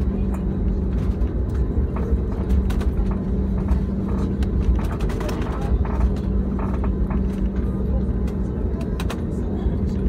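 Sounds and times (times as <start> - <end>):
aircraft engines idling rumble: 0.0 - 10.0
light clicks and rattles: 0.2 - 10.0.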